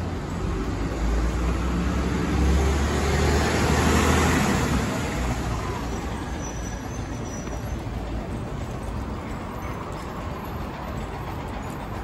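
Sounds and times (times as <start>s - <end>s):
buses running: 0.0s - 12.0s
traffic rumble: 0.0s - 12.0s.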